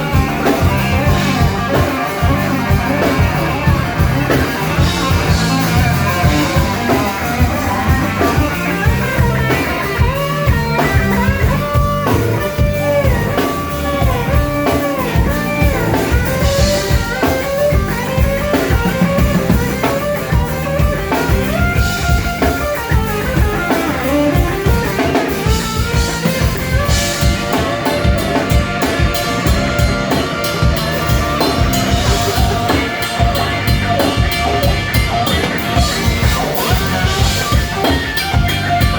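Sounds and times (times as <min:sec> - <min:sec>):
lead guitar with bent notes: 0:00.0 - 0:38.9
rock blues band playing: 0:00.0 - 0:38.9.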